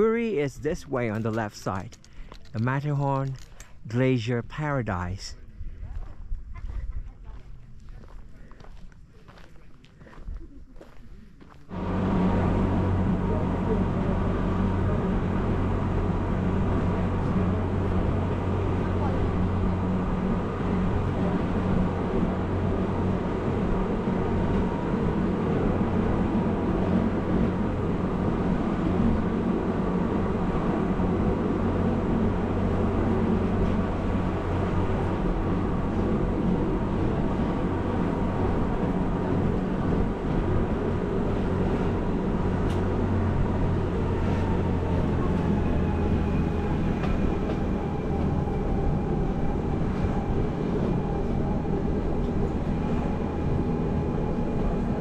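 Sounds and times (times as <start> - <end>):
electric train low drone: 0.0 - 6.5, 11.5 - 55.0.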